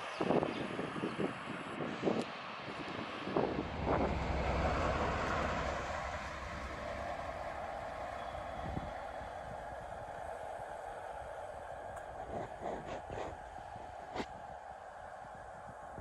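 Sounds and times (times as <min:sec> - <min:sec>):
diesel locomotive engine rumbling: 0:00.8 - 0:16.0.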